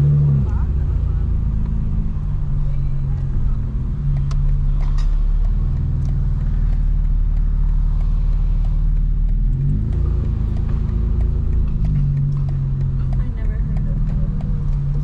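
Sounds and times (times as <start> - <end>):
loud low car exhaust drone: 0.0 - 15.0.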